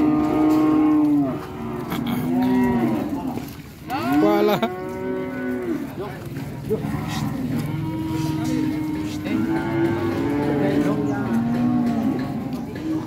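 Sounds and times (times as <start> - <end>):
cattle mooing: 0.0 - 13.0.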